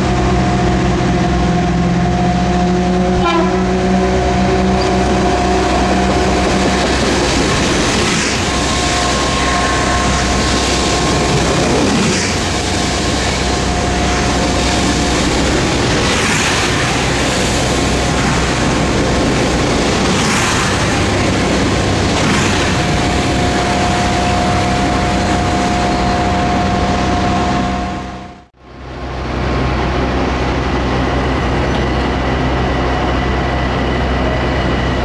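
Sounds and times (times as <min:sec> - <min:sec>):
high whine: 0:00.0 - 0:35.0
train rumble and rail noise: 0:00.0 - 0:35.0.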